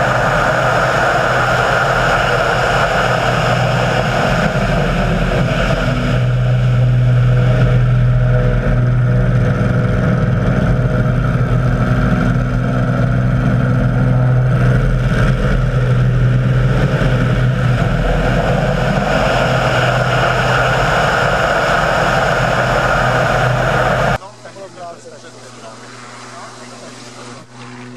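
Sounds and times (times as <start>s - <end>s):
model aircraft engine running: 0.0s - 24.2s, 25.5s - 27.9s.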